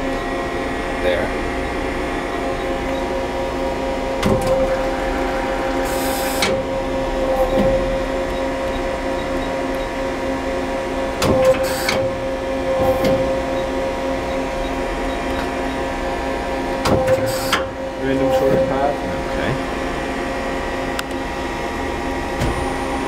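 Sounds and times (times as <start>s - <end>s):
lathe machine hum: 0.0s - 23.0s.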